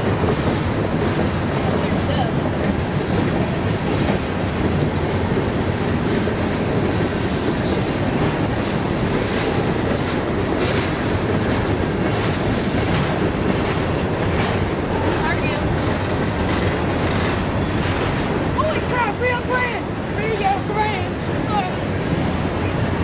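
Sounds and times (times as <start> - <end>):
steel wheels rumbling on rails: 0.0 - 23.0
train wheel clacks: 0.0 - 23.0.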